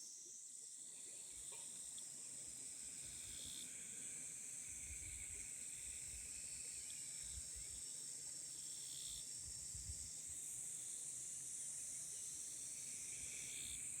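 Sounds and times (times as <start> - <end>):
high-pitched insect trill: 0.0 - 14.0
lower insect calls: 0.0 - 14.0.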